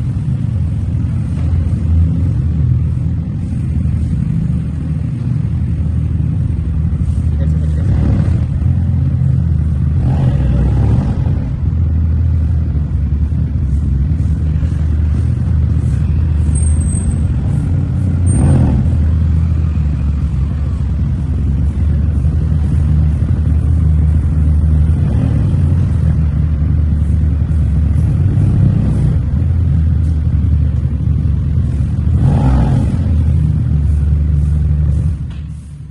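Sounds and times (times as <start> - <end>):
motorcycle engine running: 0.0 - 35.9
road noise: 0.0 - 35.9.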